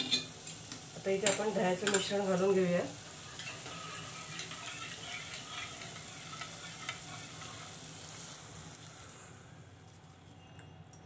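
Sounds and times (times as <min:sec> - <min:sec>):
masala frying and sizzling: 0:00.0 - 0:10.6.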